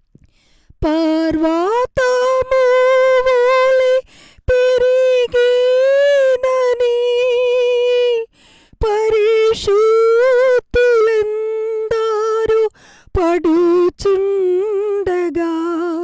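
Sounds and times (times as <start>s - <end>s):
woman singing a hymn unaccompanied: 0.8s - 16.0s.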